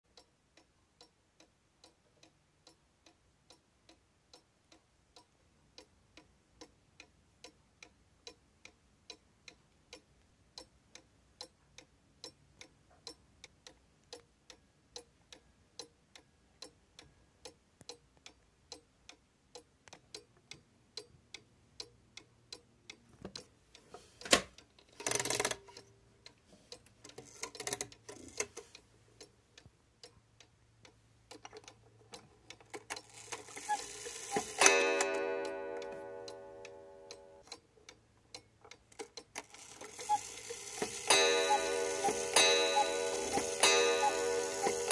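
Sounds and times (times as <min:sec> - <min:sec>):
clock ticking: 0:00.1 - 0:44.9.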